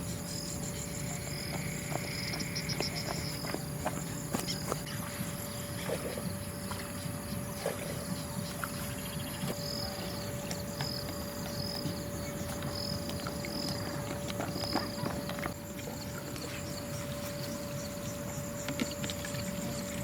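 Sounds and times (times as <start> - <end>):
insects buzzing: 0.0 - 20.0
thin steady hum: 0.0 - 20.0.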